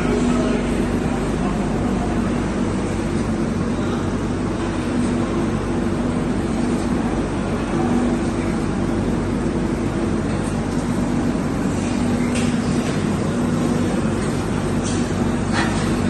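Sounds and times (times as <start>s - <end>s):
steady mechanical drone: 0.0s - 16.0s.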